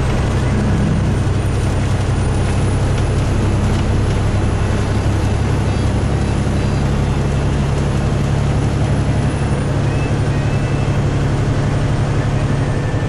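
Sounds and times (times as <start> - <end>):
truck engine and road noise drone: 0.0 - 13.0.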